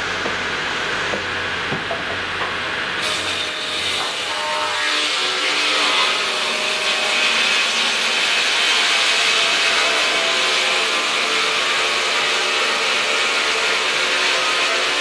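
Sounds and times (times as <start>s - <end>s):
circular saw cutting log: 1.9s - 15.0s.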